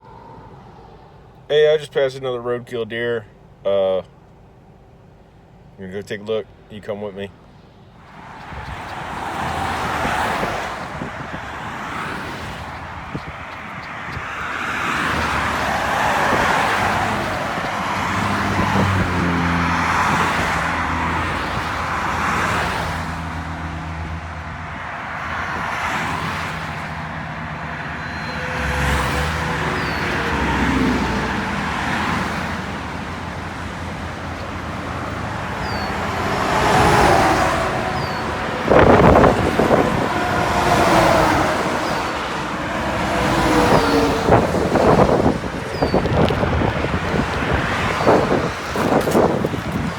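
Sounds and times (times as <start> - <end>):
tyre and road noise: 0.0 - 49.9
rushing swells of passing traffic: 6.6 - 49.9.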